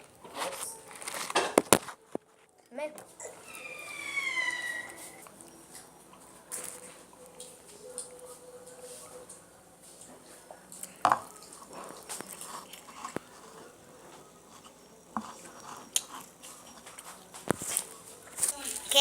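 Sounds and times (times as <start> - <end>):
faint background voices: 0.0 - 19.0.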